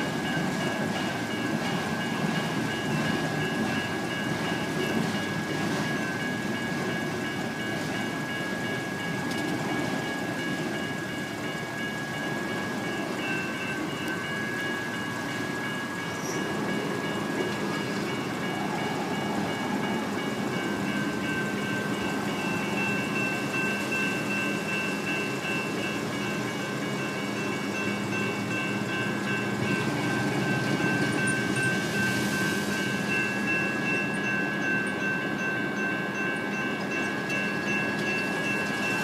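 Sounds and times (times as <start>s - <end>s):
crossing bells ringing: 0.0s - 39.0s
freight train cars rolling on rails: 0.0s - 39.0s.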